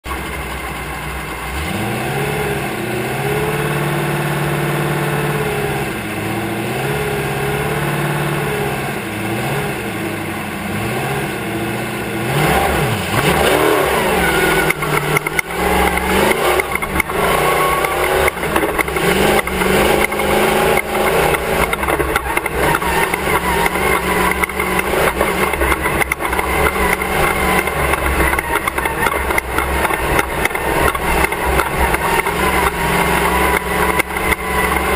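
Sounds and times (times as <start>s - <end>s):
race car engine revving: 0.0s - 34.9s.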